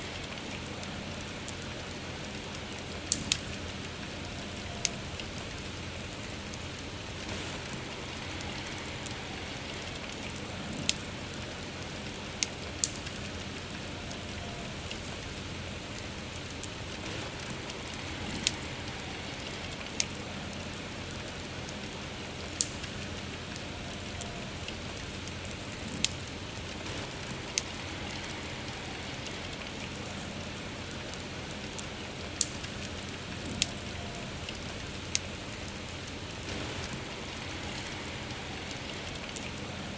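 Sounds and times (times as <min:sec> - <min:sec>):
campfire crackling and popping: 0:00.0 - 0:39.9
soft rain hiss: 0:00.0 - 0:39.9.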